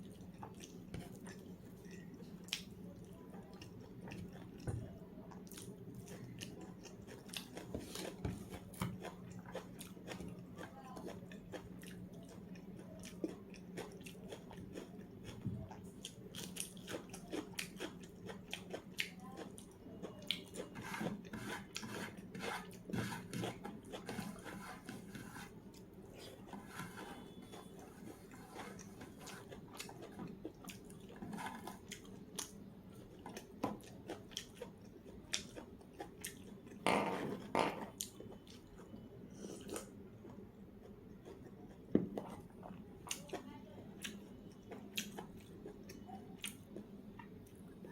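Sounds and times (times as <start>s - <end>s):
person chewing food: 0.0s - 36.8s, 37.4s - 47.9s.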